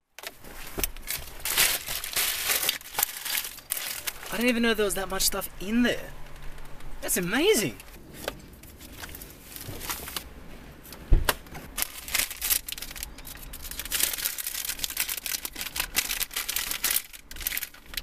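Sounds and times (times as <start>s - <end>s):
wrappers and bags rustling: 0.2s - 4.9s, 7.4s - 11.0s, 11.7s - 18.0s.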